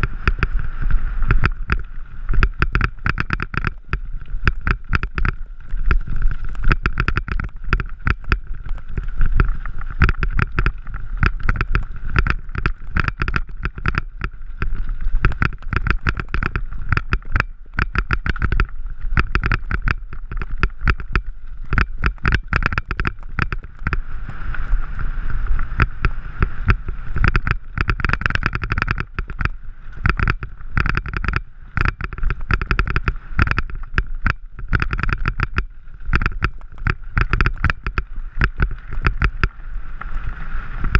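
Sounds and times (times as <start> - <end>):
bike rattling over gravel: 0.0 - 40.9
wind on microphone: 0.0 - 40.9.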